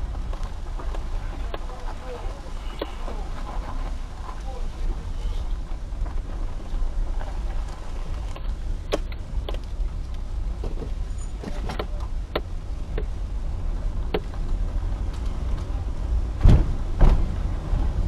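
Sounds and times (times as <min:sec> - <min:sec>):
tyres and engine rumble: 0:00.0 - 0:18.0
wheels thumping over bumps: 0:00.0 - 0:18.0.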